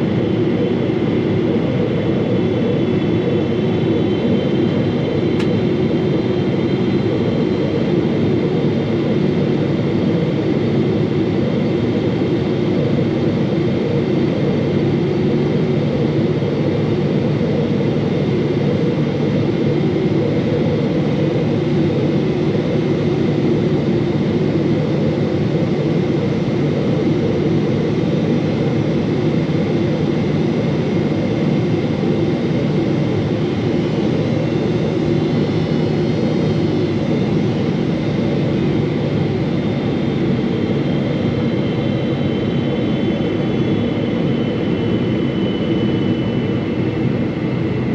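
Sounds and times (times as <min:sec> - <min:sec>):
jet engine and airflow rush: 0:00.0 - 0:47.9.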